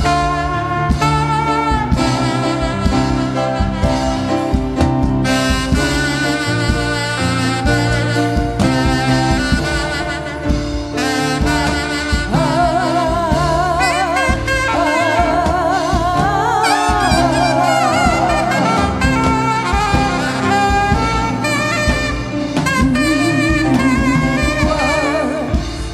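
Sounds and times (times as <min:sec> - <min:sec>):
gospel band with bass: 0:00.0 - 0:25.9
vibrato lead melody: 0:00.0 - 0:25.9.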